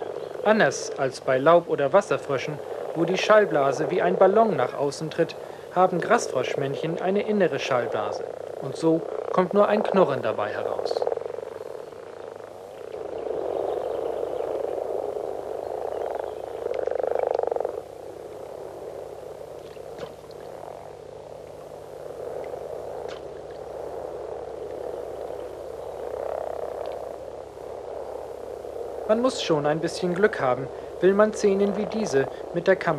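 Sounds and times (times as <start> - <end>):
frogs croaking in chorus: 0.0 - 32.9.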